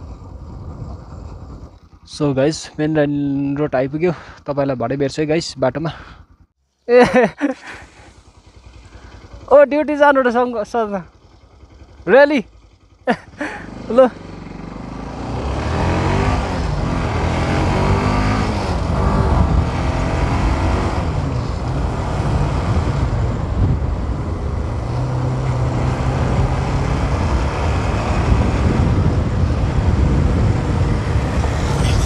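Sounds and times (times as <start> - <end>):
motorcycle engine: 0.0 - 4.4, 5.3 - 32.0
wind and road noise: 0.0 - 6.5, 7.2 - 32.0.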